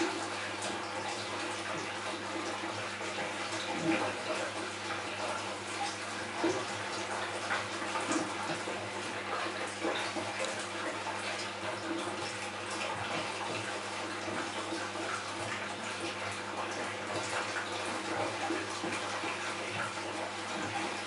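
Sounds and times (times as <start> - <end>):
pump humming: 0.0 - 21.0
water splashing and trickling: 0.0 - 21.0.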